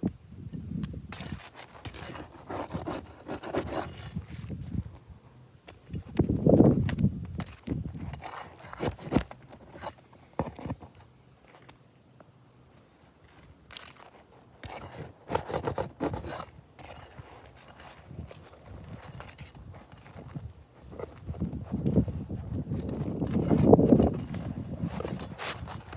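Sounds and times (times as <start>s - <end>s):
roof shingles scraping and crackling: 1.2s - 5.1s, 6.7s - 11.7s, 12.7s - 25.9s.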